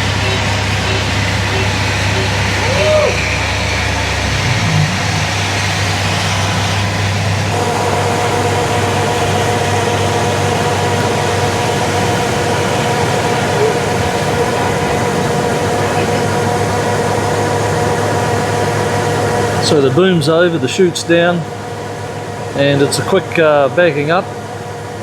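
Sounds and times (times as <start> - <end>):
harvester engine running: 0.0 - 25.0
steady whine: 0.0 - 25.0.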